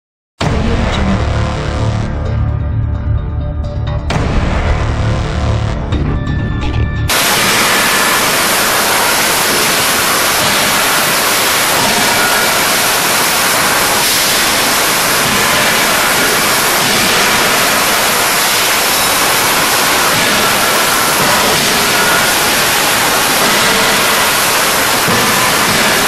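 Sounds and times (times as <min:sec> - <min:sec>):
forging machine noise: 0:00.4 - 0:02.2, 0:04.1 - 0:06.2, 0:07.1 - 0:26.0.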